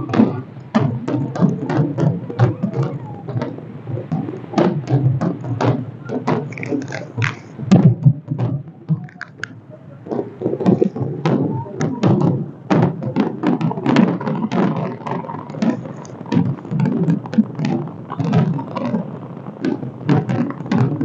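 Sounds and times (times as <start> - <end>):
fireworks bangs: 0.0 - 21.0
murmur of large crowd: 0.0 - 21.0.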